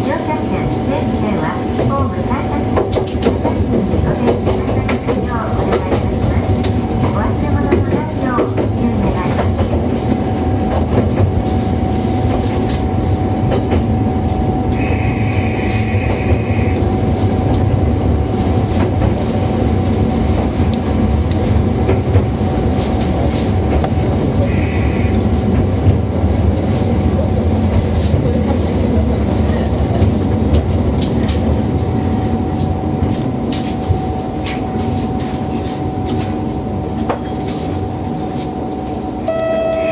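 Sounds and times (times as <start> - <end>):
railcar engine drone: 0.0 - 39.9.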